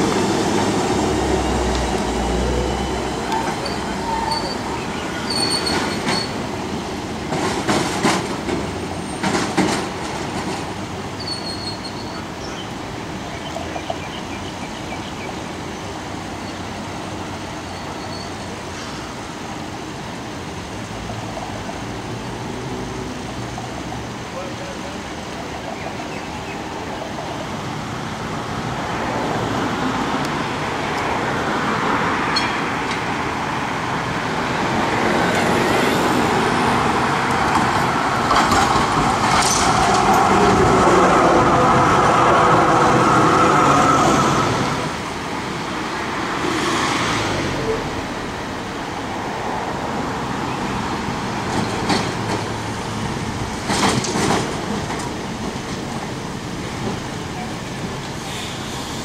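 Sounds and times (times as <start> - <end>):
street traffic: 0.0 - 59.0
tram passing with whine: 0.0 - 59.0.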